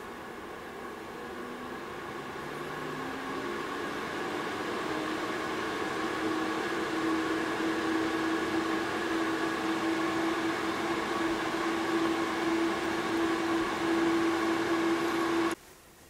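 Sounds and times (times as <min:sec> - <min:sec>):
air purifier fan running: 0:00.0 - 0:15.6.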